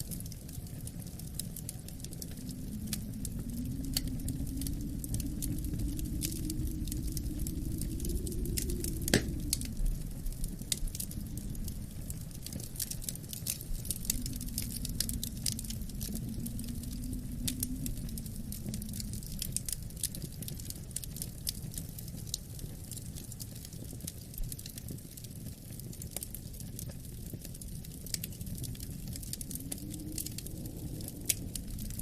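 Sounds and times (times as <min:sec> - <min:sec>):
low wind moaning: 0:00.0 - 0:22.0, 0:26.5 - 0:32.0
wood fire crackling and popping: 0:00.0 - 0:32.0.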